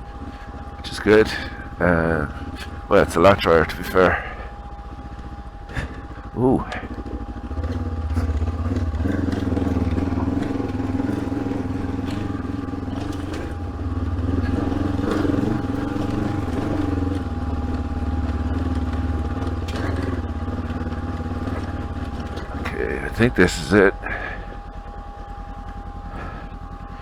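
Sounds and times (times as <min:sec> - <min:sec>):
motorcycle engine running: 0:00.0 - 0:27.0
thin steady whine: 0:00.0 - 0:27.0.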